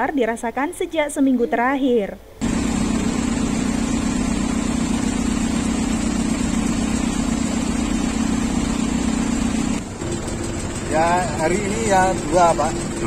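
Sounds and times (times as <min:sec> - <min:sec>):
diesel engine idling: 0:02.4 - 0:13.0.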